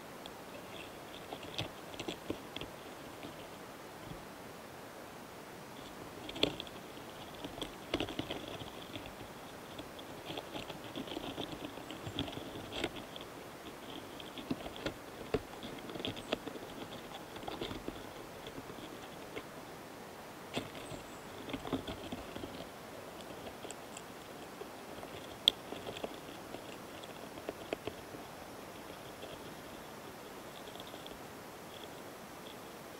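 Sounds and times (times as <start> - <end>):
beetles scratchy rasps and clicks: 0.2 - 4.2, 5.7 - 32.8.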